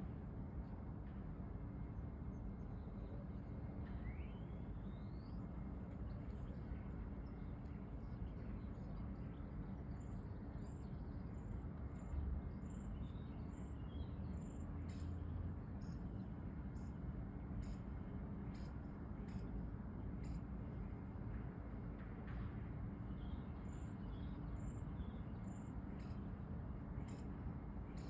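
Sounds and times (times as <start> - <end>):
low city rumble: 0.0 - 28.0.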